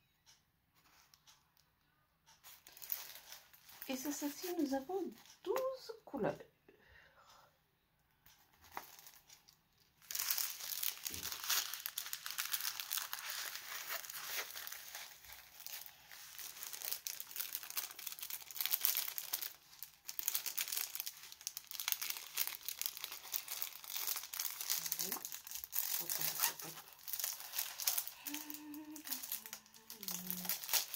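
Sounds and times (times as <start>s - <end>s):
plastic bag crinkling: 2.4s - 5.3s, 8.6s - 30.9s.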